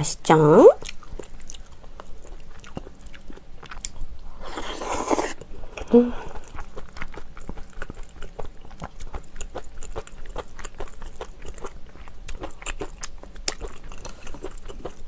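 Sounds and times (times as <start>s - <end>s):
wet chewing: 0.8s - 5.5s, 6.2s - 15.0s.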